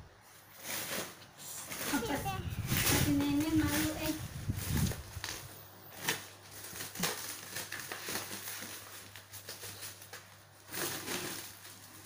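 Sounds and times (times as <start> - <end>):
plastic film crinkling: 0.3 - 12.0.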